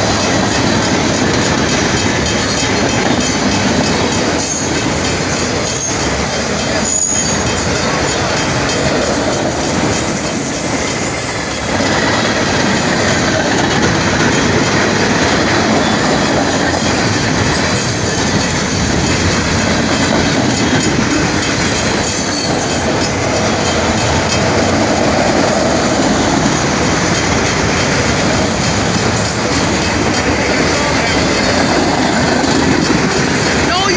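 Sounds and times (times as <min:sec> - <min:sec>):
freight train rumbling past: 0:00.0 - 0:33.9
train wheels squealing: 0:00.0 - 0:33.9
wheels clacking over rail joints: 0:00.0 - 0:33.9.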